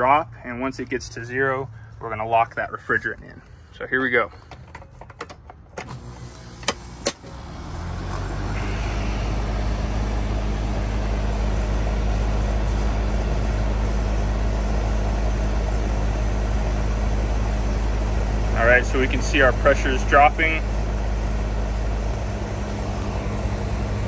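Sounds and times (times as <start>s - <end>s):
air conditioner compressor humming: 0.0s - 24.0s
fan noise: 0.0s - 24.0s.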